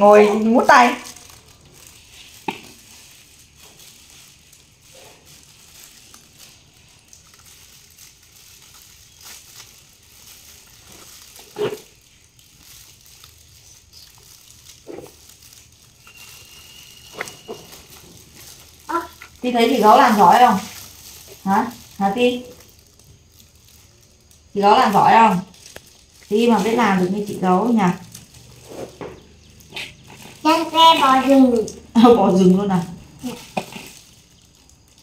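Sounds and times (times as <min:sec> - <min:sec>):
faint crinkling: 0:00.0 - 0:35.0.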